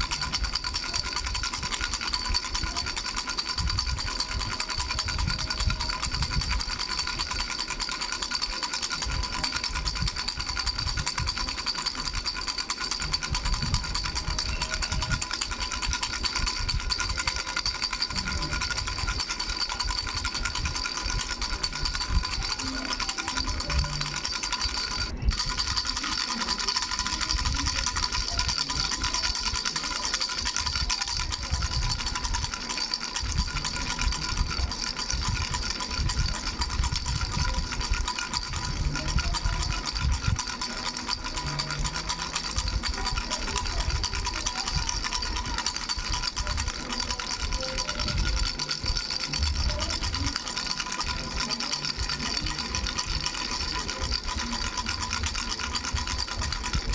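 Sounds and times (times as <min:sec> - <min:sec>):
baby rattle bells jingling: 0:00.0 - 0:56.9.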